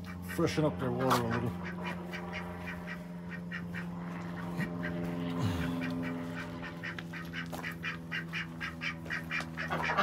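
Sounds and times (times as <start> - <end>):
ducks quacking: 0.0 - 10.0
steady low hum: 0.0 - 10.0.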